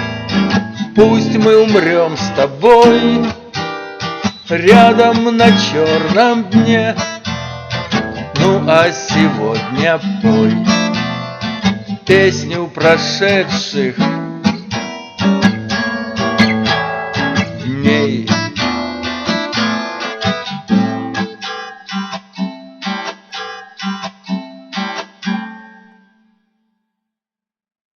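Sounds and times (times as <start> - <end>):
acoustic guitar playing: 0.0 - 26.4.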